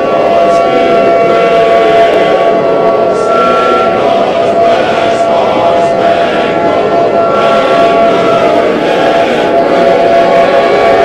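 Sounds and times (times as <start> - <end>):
siren-like alarm tones: 0.0 - 11.0.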